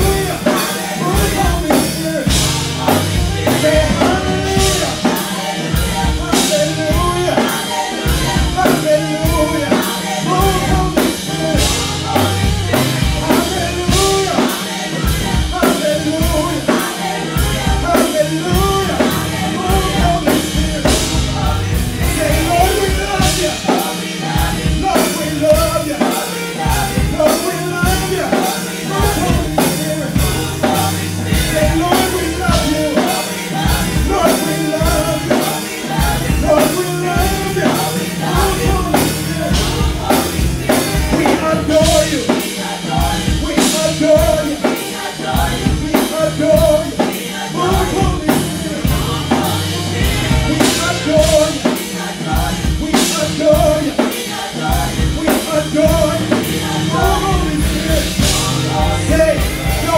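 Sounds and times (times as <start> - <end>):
bass: 0.0 - 59.9
drum beat: 0.0 - 59.9
women singing gospel song: 0.0 - 59.9.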